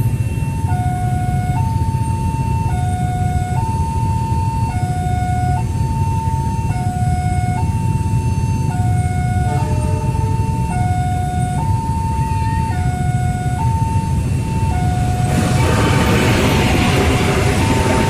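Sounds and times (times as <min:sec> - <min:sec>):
steady low rumble: 0:00.0 - 0:18.0
two-tone level crossing siren: 0:00.0 - 0:18.0.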